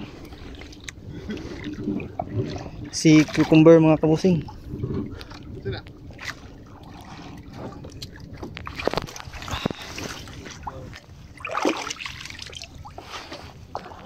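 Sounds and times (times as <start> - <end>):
seawater sloshing and splashing: 0.0 - 14.0.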